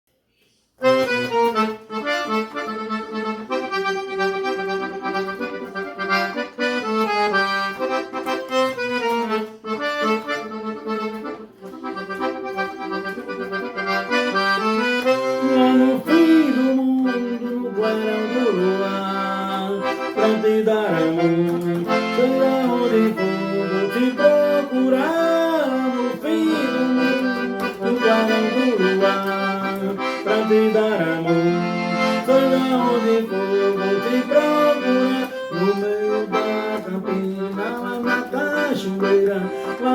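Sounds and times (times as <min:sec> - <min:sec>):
accordion melody with bass notes: 0:00.8 - 0:39.9.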